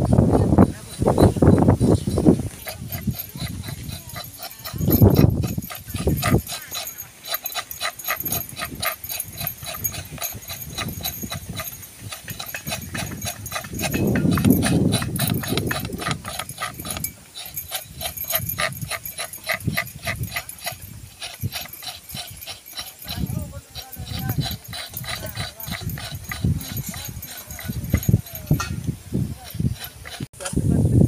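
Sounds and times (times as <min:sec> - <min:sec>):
wind buffeting microphone: 0:00.0 - 0:31.0
fast clicking chorus: 0:00.4 - 0:30.3.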